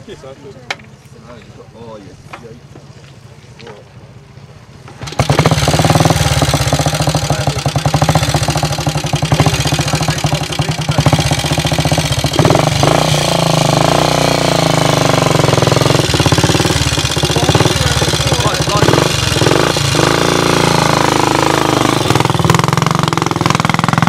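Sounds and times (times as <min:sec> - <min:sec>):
motorcycle engine running: 0:04.6 - 0:24.0.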